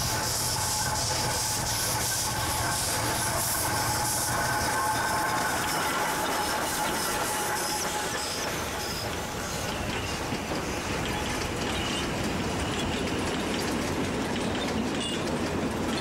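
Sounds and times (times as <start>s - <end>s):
hissing steam: 0.0s - 14.4s
low rumble of running train: 0.0s - 16.0s
steam locomotive exhaust chuffs: 0.0s - 16.0s.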